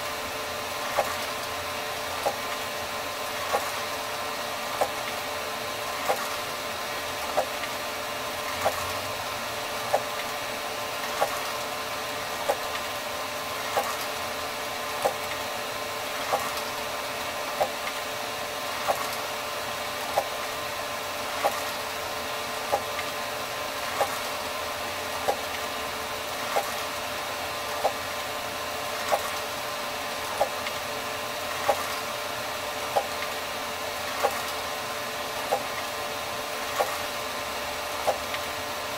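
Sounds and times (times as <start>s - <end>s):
printer mechanical hum and whine: 0.0s - 38.9s.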